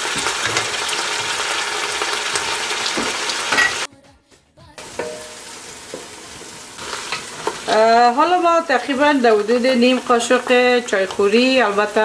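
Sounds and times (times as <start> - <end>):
onions sizzling in hot oil: 0.0 - 3.9, 4.8 - 12.0.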